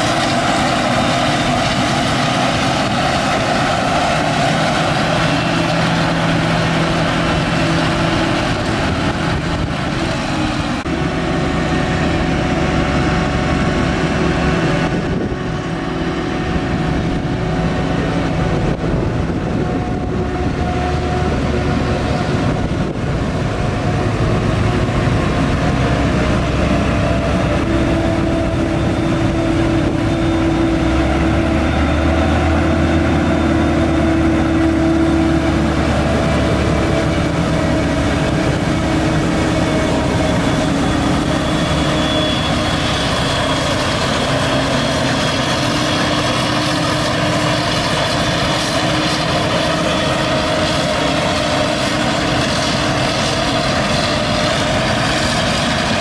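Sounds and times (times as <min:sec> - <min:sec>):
forage harvester droning: 0:00.0 - 0:56.0
tractor engine: 0:00.0 - 0:56.0.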